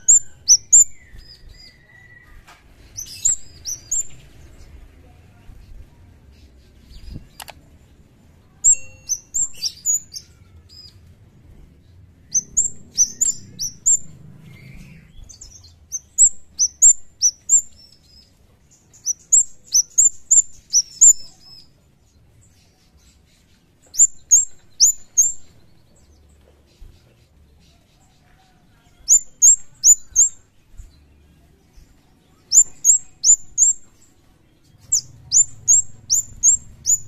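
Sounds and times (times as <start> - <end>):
bird high chirps: 0.0 - 4.8, 8.4 - 11.1, 12.2 - 21.8, 22.5 - 37.0.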